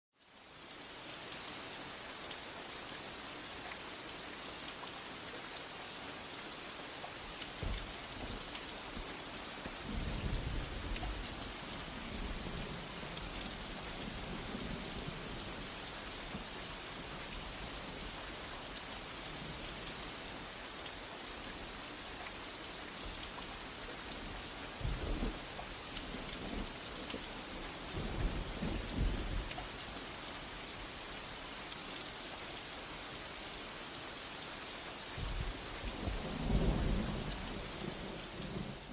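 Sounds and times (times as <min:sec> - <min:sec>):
rain hissing: 0:00.2 - 0:38.9.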